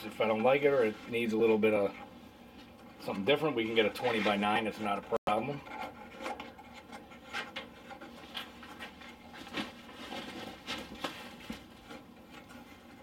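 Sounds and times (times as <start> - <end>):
soft rubbing of parts: 0.0 - 13.0.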